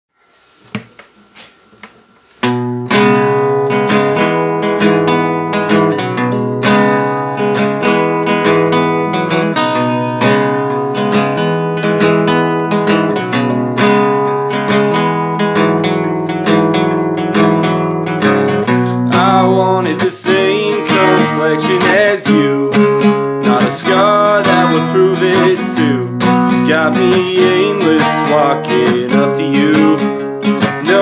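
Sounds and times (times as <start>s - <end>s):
acoustic guitar strumming chords: 2.4s - 31.0s.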